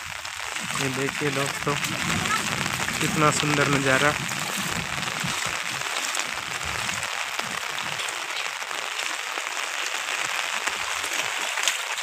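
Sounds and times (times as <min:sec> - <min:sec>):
rain on a flat roof and trees: 0:00.0 - 0:12.0.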